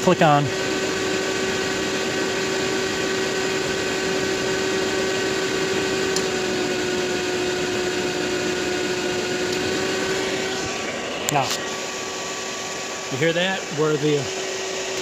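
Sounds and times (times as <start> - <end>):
machine fan and motor humming: 0.0 - 15.0.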